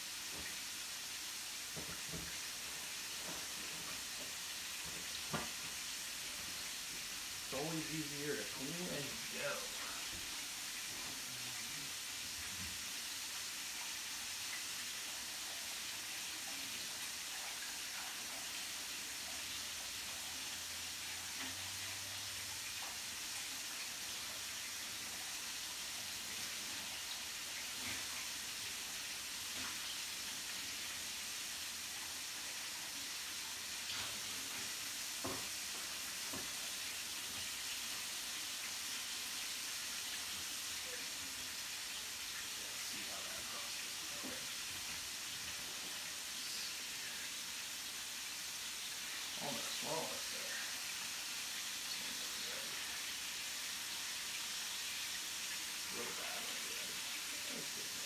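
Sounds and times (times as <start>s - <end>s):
chicken sizzling in oil: 0.0s - 58.0s.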